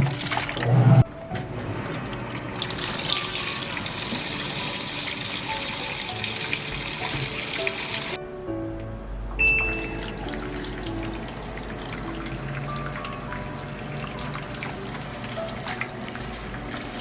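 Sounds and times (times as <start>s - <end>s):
water running into washing machine: 0.0s - 8.2s, 9.8s - 17.0s.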